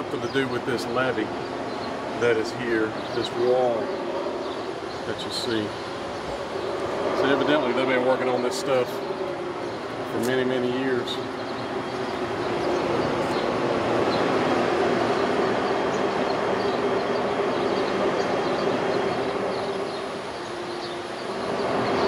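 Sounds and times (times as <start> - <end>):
loud machinery rumble with drone: 0.0 - 22.0.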